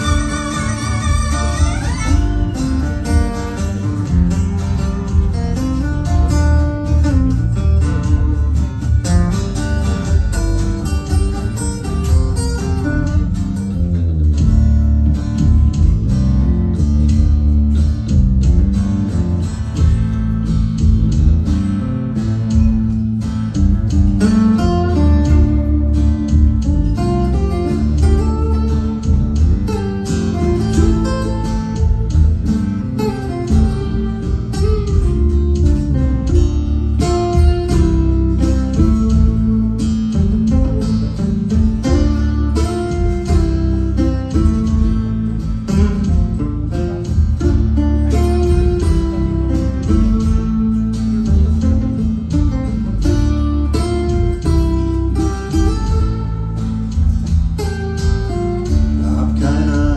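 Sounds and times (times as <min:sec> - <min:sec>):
acoustic guitars strumming: 0:00.0 - 0:59.9
electric bass line: 0:00.0 - 0:59.9.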